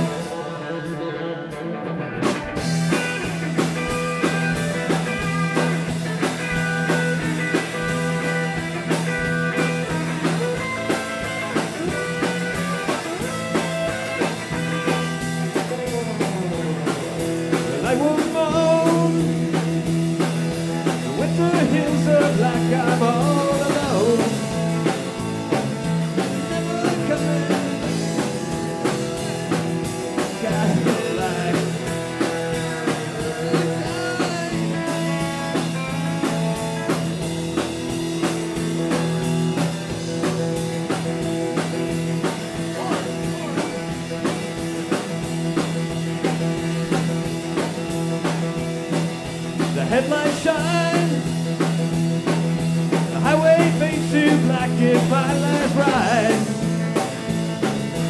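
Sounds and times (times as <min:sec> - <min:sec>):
lead guitar line bending: 0:00.0 - 0:58.0
rock band playing: 0:00.0 - 0:58.0.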